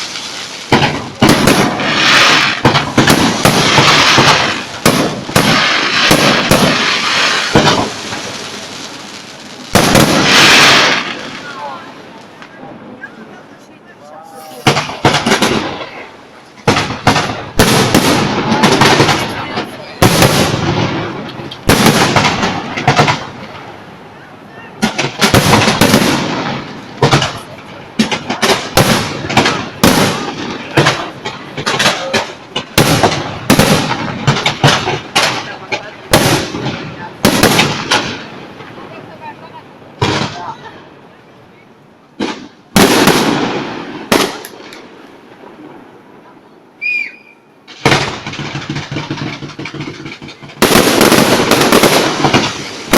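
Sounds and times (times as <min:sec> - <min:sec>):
firework bangs: 0:00.0 - 0:13.5, 0:14.2 - 0:41.2, 0:42.1 - 0:52.9
firework crackling: 0:00.0 - 0:52.9.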